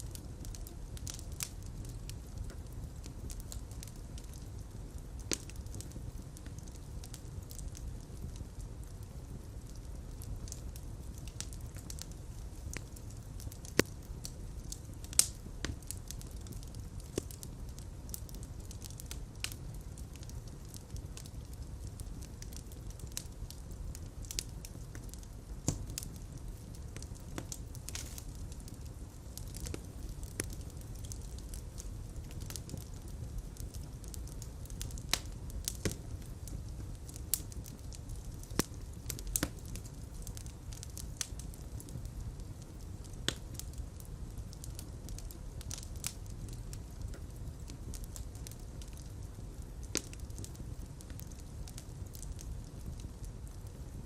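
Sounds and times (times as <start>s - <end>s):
sharp pops of fire: 0.0s - 53.8s
fire crackling: 0.0s - 54.0s
low rumble of flames: 0.0s - 54.0s.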